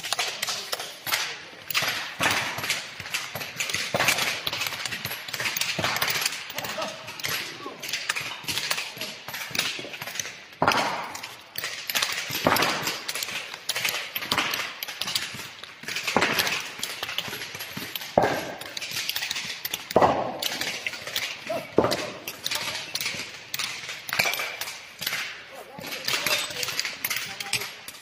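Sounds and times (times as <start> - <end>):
hard crunching knocks and clatters: 0.0 - 28.0.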